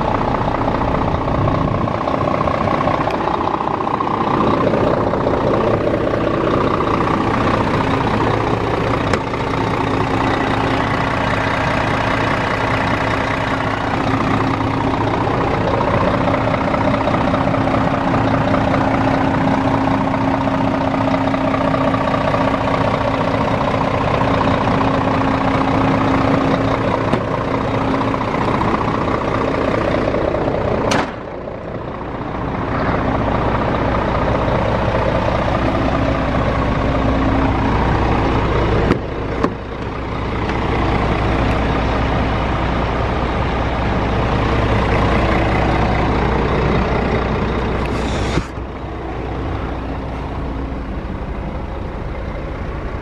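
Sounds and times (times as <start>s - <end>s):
truck diesel engine idling: 0.0s - 53.0s.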